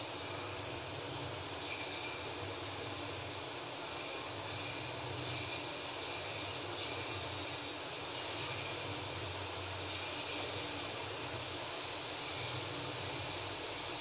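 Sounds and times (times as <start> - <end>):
batter sizzling in hot oil: 0.0 - 14.0.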